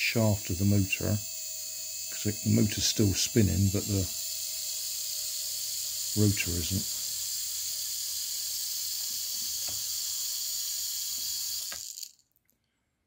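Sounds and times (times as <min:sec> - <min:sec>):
small electric motor whirring: 0:00.0 - 0:12.2.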